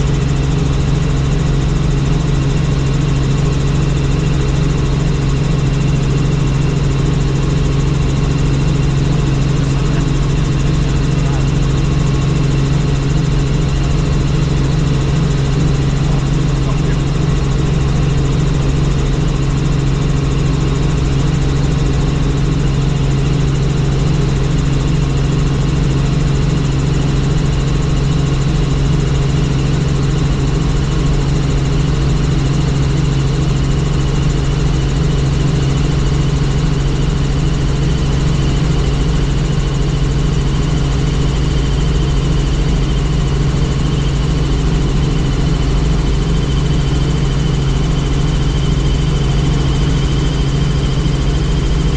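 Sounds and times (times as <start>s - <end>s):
helicopter rotor and engine drone: 0.0s - 51.9s.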